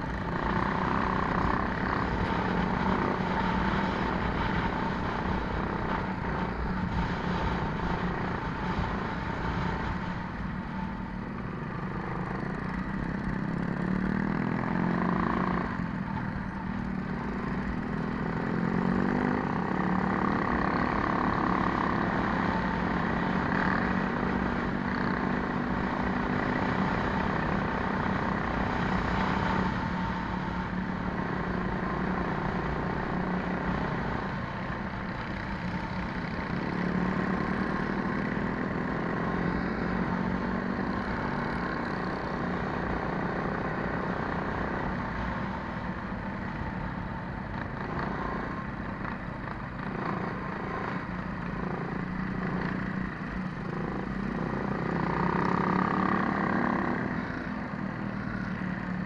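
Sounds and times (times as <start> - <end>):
other minibike engines: 0.0 - 59.0.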